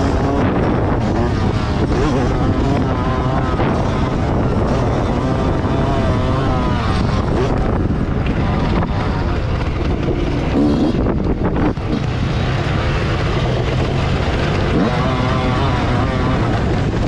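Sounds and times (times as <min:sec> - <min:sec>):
motocross bike engine revving: 0:00.0 - 0:17.0
wind buffeting microphone: 0:00.0 - 0:17.0.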